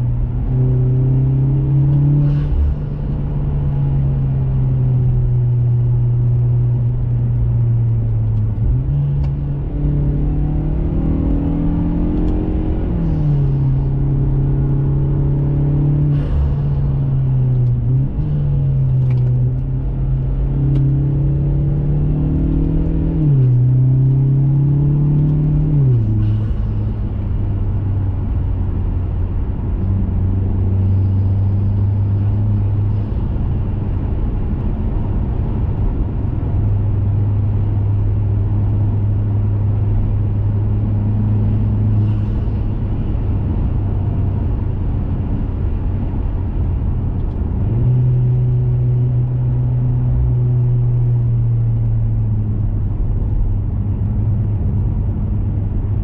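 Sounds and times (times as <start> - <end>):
car engine drone under acceleration: 0.0 - 56.0.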